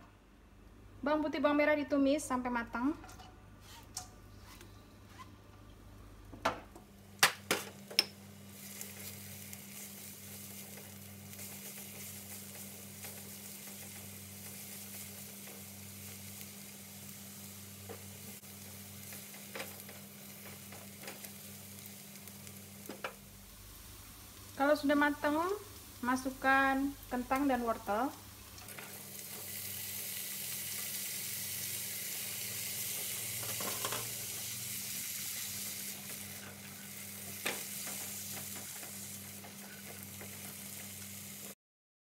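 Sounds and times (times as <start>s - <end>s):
garlic sizzling in oil: 7.3s - 41.6s.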